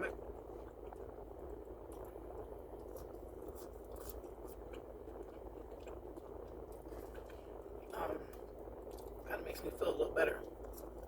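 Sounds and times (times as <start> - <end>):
low room hum: 0.0 - 11.0
person chewing crunchy food: 0.0 - 11.0.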